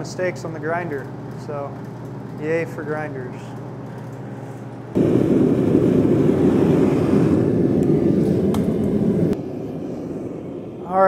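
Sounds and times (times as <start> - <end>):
gas burner low rumble: 0.0 - 11.0.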